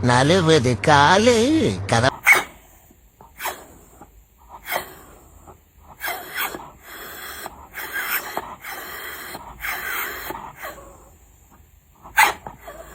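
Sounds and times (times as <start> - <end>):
dog snorting and sniffing: 2.1 - 12.9.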